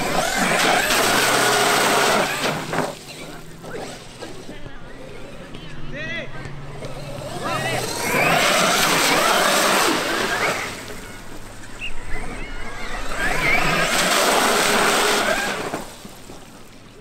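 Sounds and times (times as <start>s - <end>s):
truck splashing through puddle: 0.0s - 5.3s, 6.9s - 17.0s
electric motor whine: 0.0s - 5.8s, 6.5s - 15.9s.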